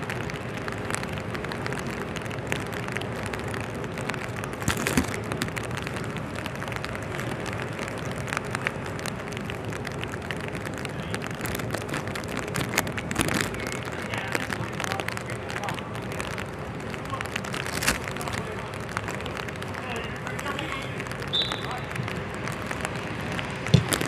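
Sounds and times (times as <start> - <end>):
rain drops ticking on a surface: 0.0 - 24.0.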